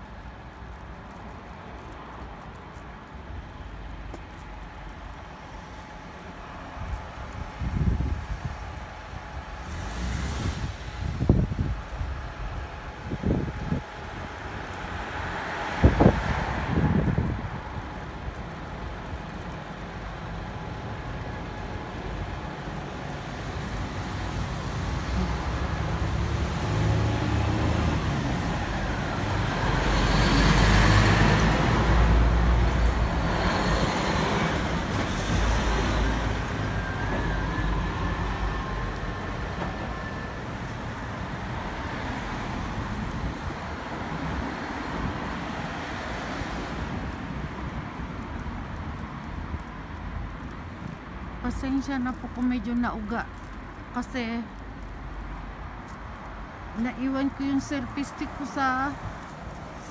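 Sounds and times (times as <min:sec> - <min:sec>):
cars passing on a road: 0:00.0 - 0:59.9.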